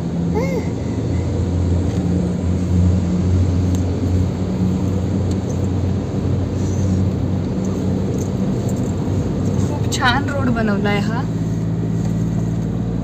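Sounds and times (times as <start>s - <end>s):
car engine and road noise drone: 0.0s - 13.0s.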